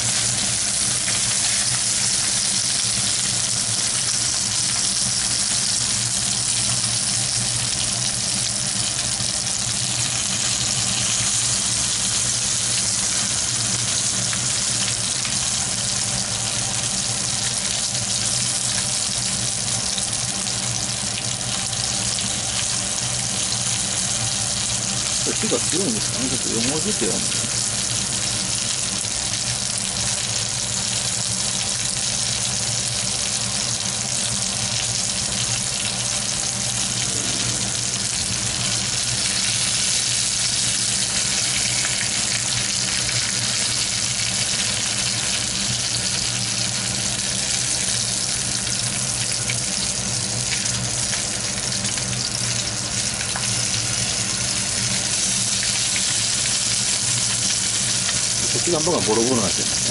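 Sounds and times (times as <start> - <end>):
meat sizzling in a pan: 0.0 - 59.9.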